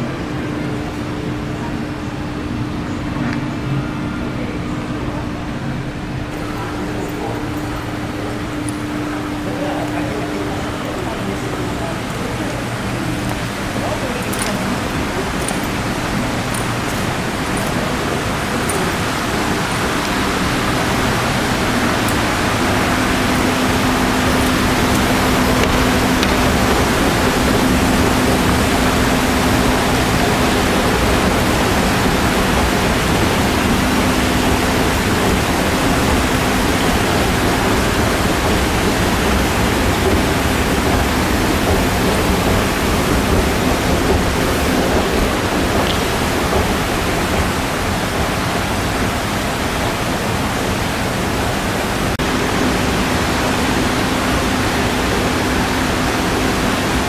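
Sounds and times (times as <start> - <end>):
low steady hum: 0.0 - 57.0
rushing lobby room noise: 0.0 - 57.0.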